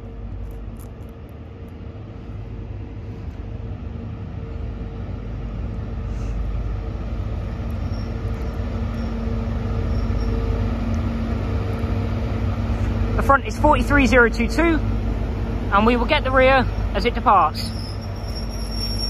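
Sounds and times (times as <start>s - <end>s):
train diesel engine rumbling: 0.0s - 19.0s.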